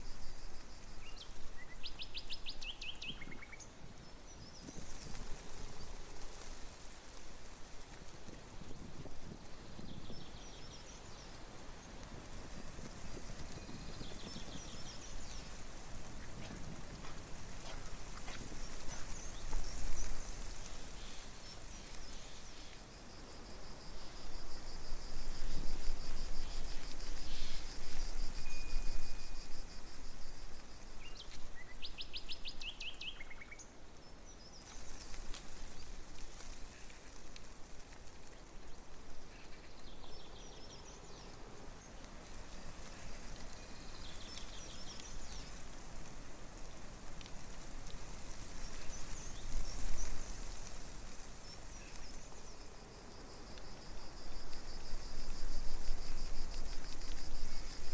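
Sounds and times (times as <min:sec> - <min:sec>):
steady background hiss: 0:00.0 - 0:57.9.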